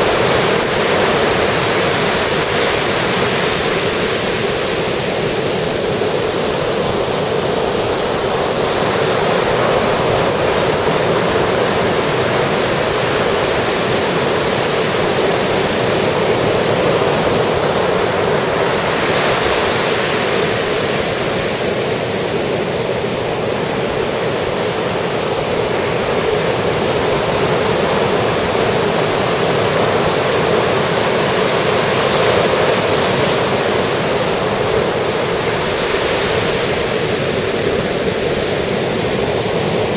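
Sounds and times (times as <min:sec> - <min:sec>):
ocean surf washing up beach: 0:00.0 - 0:39.9.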